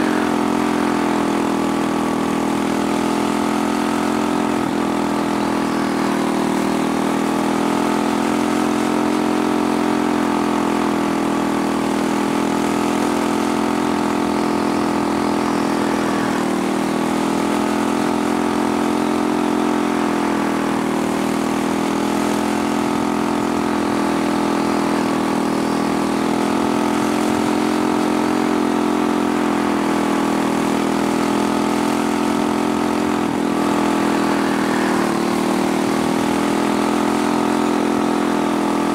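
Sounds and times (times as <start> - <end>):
small racing engine running hard: 0.0 - 38.9.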